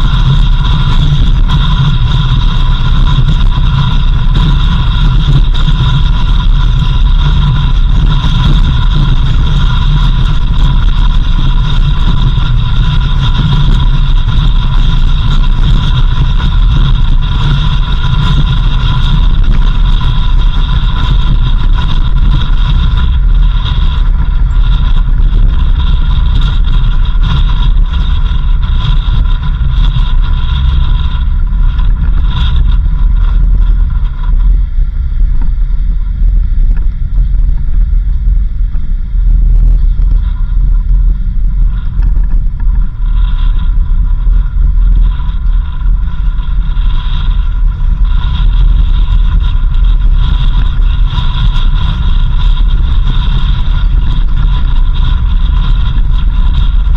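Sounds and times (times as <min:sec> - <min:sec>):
vehicle driving rumble: 0:00.0 - 0:56.9.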